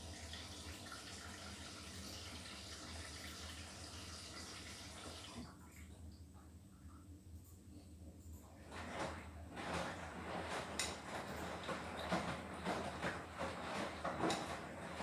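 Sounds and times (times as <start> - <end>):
water running into washing machine: 0.0 - 5.6, 8.6 - 15.0.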